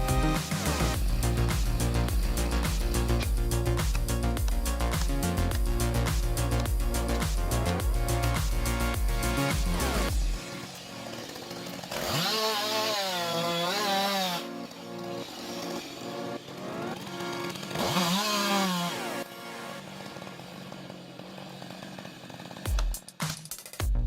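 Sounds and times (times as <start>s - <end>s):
chainsaw cutting wood: 0.0s - 23.8s.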